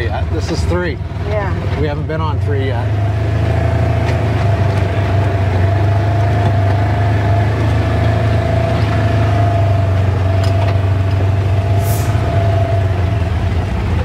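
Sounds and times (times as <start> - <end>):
vehicle engine running low speed: 0.0 - 14.0.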